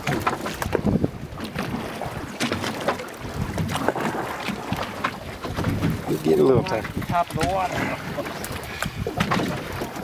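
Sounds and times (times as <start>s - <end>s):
boat engine rumble: 0.0s - 10.0s
wind buffeting microphone: 0.0s - 10.0s.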